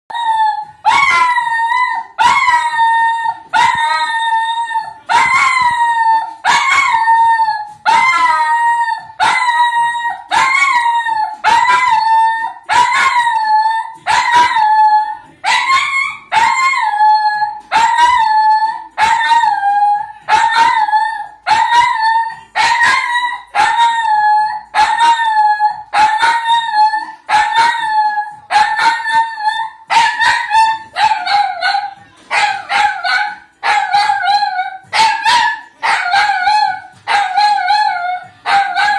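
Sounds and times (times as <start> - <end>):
dog howling: 0.1 - 38.9.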